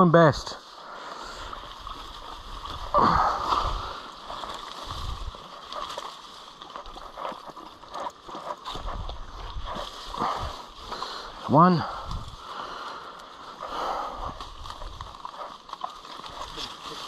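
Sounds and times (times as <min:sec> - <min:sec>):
wet grass rustling: 0:00.6 - 0:17.0.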